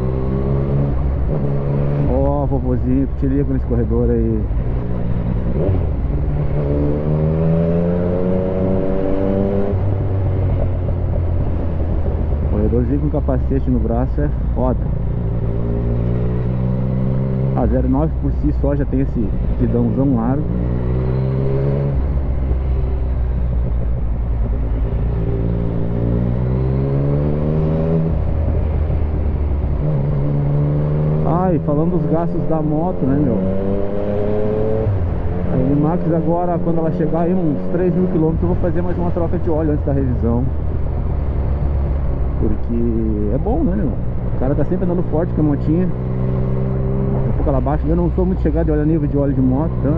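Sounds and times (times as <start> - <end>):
motorcycle engine accelerating: 0.0 - 3.2, 4.4 - 49.9.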